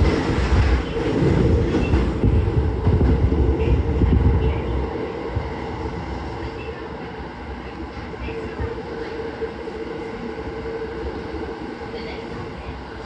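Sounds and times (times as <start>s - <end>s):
constant train hum: 0.0s - 13.0s
train wheels rumbling on rails: 0.0s - 13.0s.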